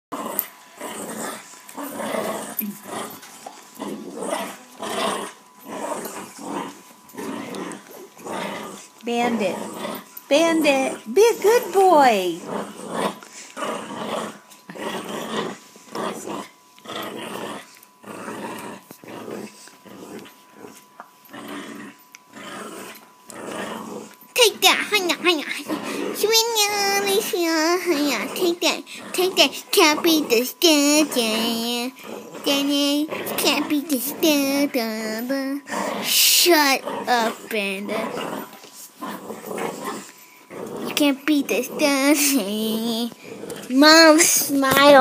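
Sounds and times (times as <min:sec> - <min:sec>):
small dog growling: 0:00.1 - 0:45.0.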